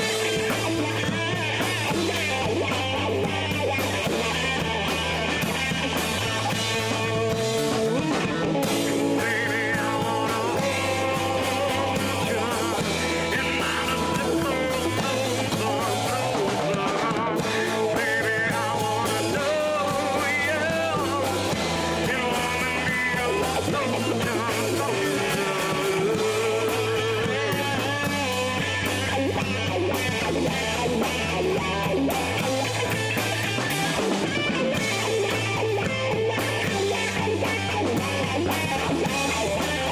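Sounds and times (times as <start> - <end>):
bass line: 0.0 - 39.9
electric guitars: 0.0 - 39.9
rock band playing: 0.0 - 39.9.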